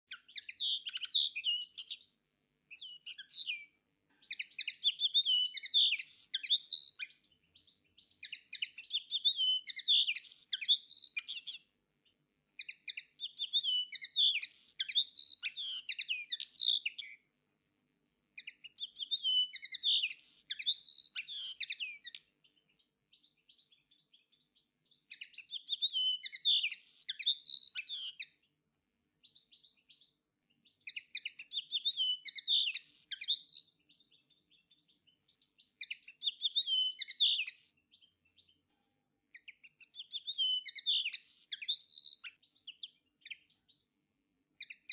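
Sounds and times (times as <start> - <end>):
bird twittering song: 0.0 - 17.3, 18.4 - 28.6, 29.2 - 44.9.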